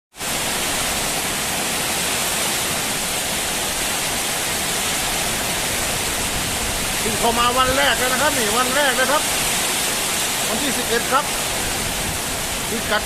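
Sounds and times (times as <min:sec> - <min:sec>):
heavy rain falling: 0:00.1 - 0:13.0.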